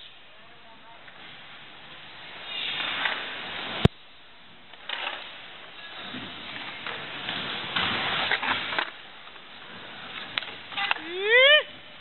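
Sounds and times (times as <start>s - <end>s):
skateboard wheels rolling: 1.0s - 12.0s.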